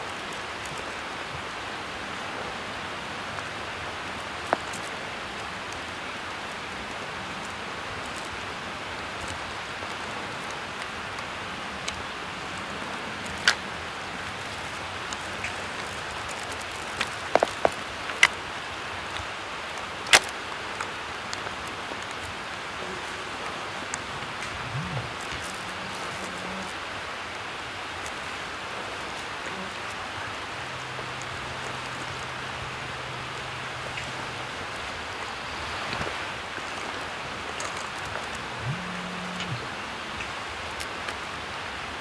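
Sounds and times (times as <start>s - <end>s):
woodland hiss: 0.0s - 42.0s
sharp crackles: 3.3s - 41.6s.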